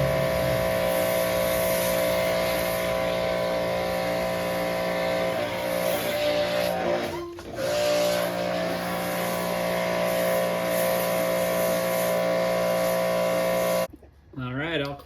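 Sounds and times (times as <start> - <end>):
hissing water spray: 0.0 - 13.9
pressure washer motor drone: 0.0 - 13.9.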